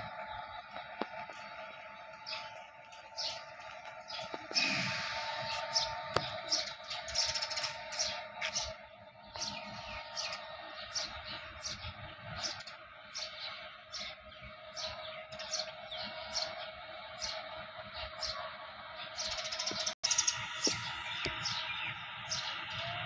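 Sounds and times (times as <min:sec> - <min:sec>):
small birds chirping: 0:00.0 - 0:23.0
steady background hum: 0:00.0 - 0:23.0.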